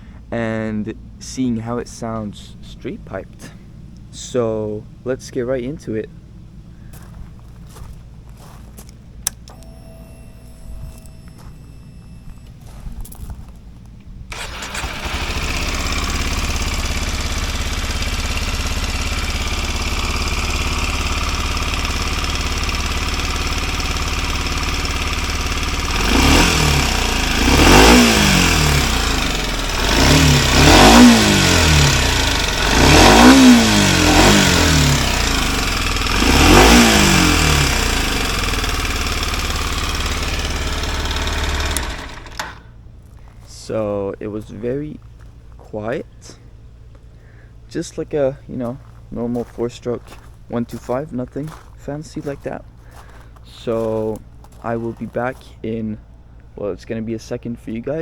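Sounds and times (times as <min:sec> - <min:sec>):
motorcycle engine idling and revving: 0:06.1 - 0:47.7, 0:48.3 - 0:56.5.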